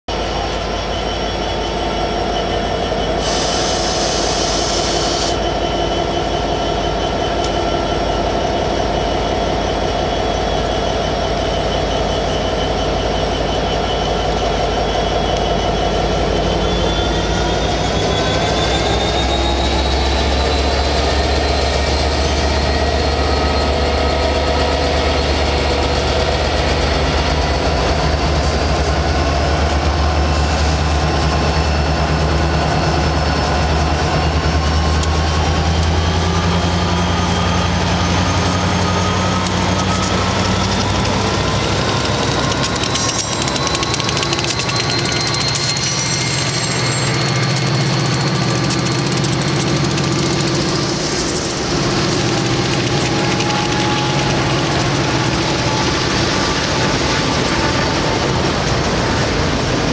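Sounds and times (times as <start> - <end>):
diesel locomotives revving: 11.4 - 59.9.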